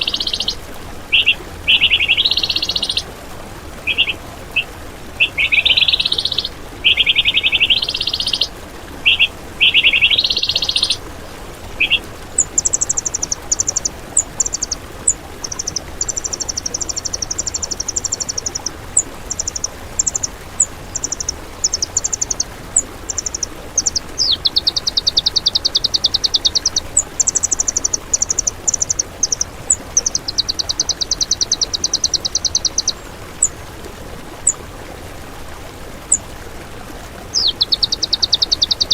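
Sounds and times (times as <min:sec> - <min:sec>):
songbird trilling: 0:00.0 - 0:03.1, 0:03.8 - 0:11.0, 0:11.7 - 0:33.6, 0:37.3 - 0:38.9
faint steady hiss: 0:00.0 - 0:38.9.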